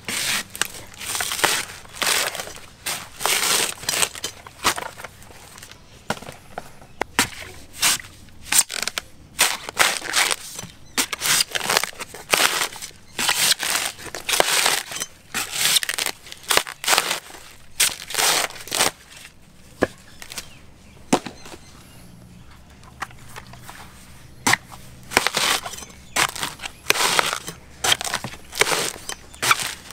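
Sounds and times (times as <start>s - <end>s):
coconut husk crunching: 0.0s - 29.9s.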